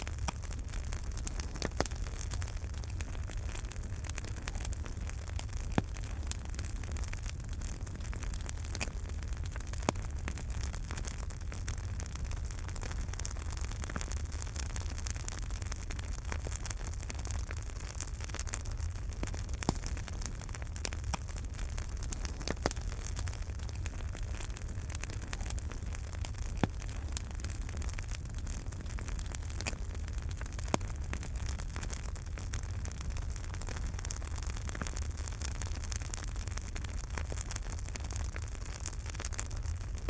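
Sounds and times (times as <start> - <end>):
fire crackles and pops: 0.0 - 40.0
wood fire rumble and hiss: 0.0 - 40.0.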